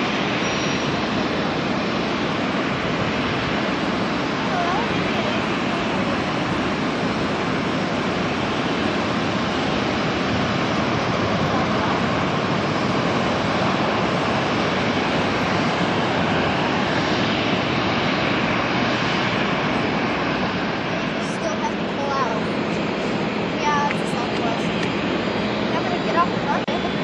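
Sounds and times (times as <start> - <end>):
jet engines at takeoff thrust: 0.0 - 27.0.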